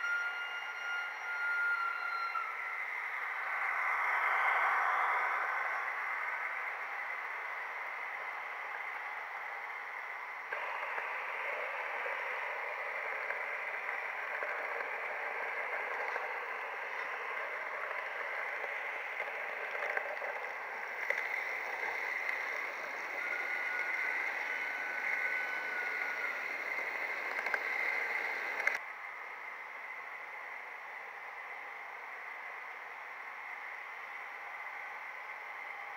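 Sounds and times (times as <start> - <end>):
model train wheels rolling on rails: 0.0 - 28.8.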